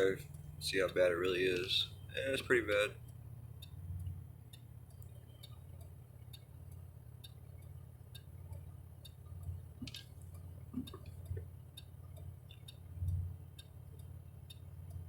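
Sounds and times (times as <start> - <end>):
car cabin drone: 0.0 - 15.0.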